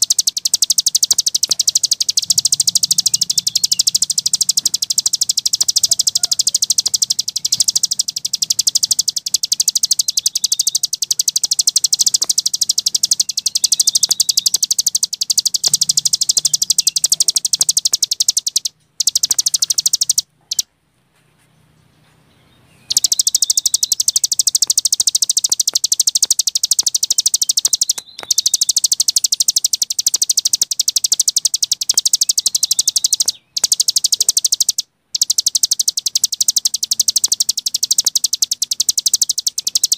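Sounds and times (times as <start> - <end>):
songbird trilling: 0.0 - 20.7, 22.8 - 39.9.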